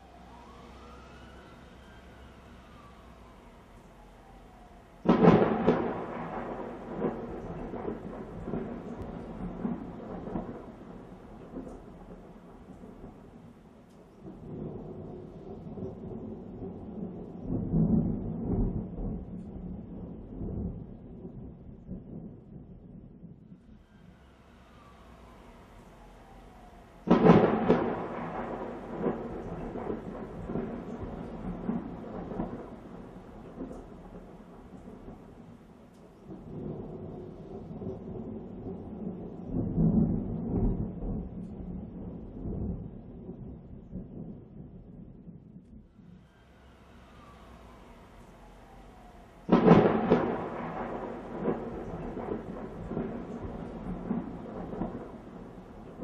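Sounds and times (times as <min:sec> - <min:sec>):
thunder rumbling: 0:00.0 - 0:56.0.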